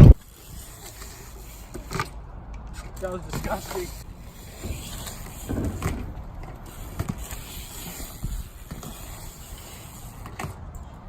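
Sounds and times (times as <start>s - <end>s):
skateboard wheels rolling on concrete: 0.0s - 11.0s
skateboard clacks: 1.7s - 10.7s.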